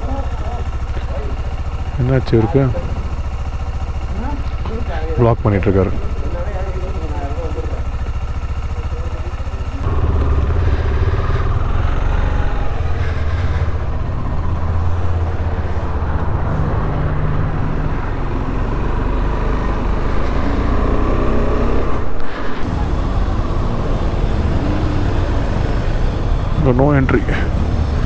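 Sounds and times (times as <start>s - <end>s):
motorcycle engine riding slowly: 0.0s - 28.0s.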